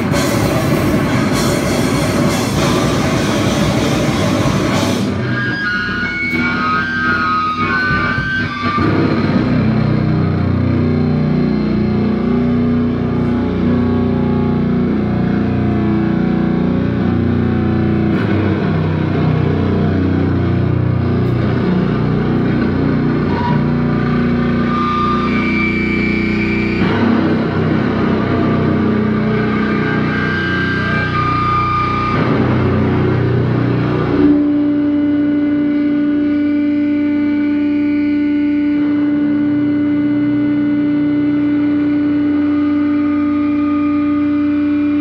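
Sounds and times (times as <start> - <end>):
distorted electric guitar chords: 0.0 - 45.0
high sustained guitar notes: 0.0 - 45.0.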